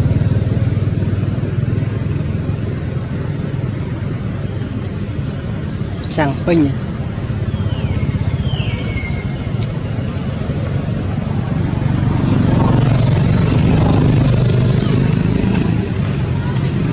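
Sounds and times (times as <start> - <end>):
vehicle engine humming: 0.0 - 16.9.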